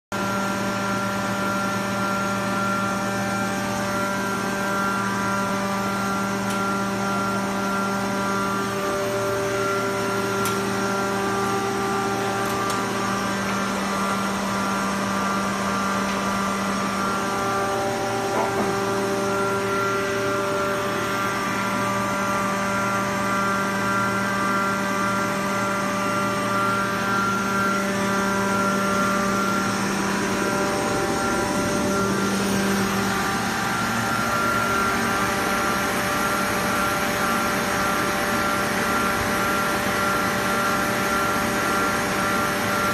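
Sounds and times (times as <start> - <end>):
air compressor humming: 0.1 - 42.9.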